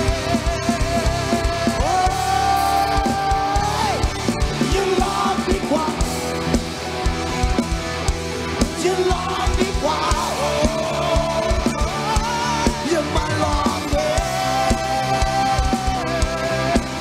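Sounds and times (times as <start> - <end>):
male singer: 0.0 - 6.1, 8.6 - 17.0
live rock band playing: 0.0 - 17.0.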